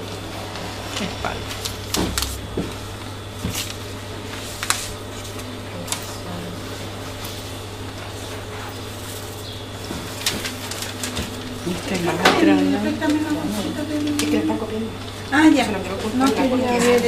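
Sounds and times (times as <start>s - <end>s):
paper and fabric rustling: 0.0s - 17.0s
steady low hum: 0.0s - 17.0s.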